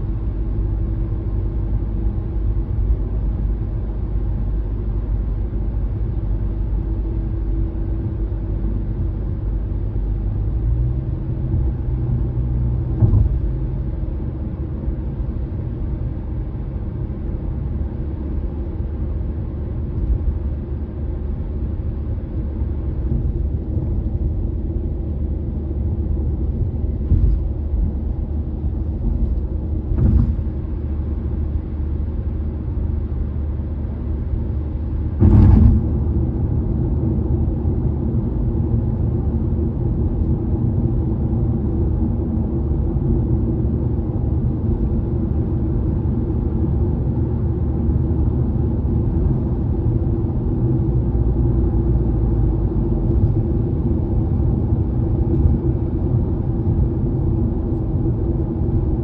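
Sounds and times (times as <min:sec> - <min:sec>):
car tyre and road noise: 0:00.0 - 0:59.0.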